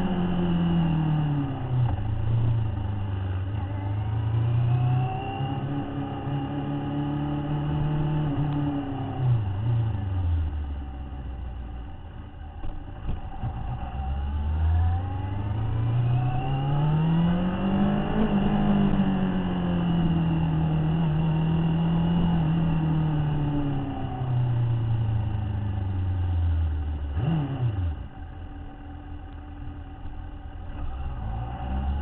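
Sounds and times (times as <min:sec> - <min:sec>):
motorcycle engine revving: 0:00.0 - 0:11.0, 0:12.5 - 0:32.0.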